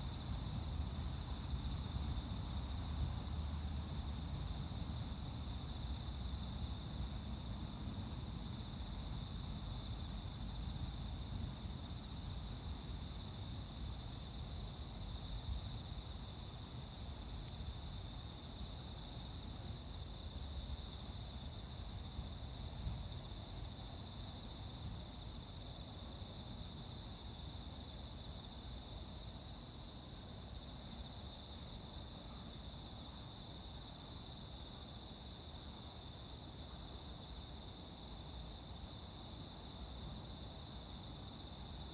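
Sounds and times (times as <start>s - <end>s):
crickets and insects chirring: 0.0s - 41.9s.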